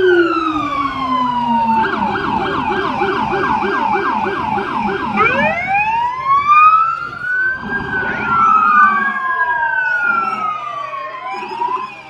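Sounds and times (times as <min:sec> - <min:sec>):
police siren wailing and yelping: 0:00.0 - 0:12.0.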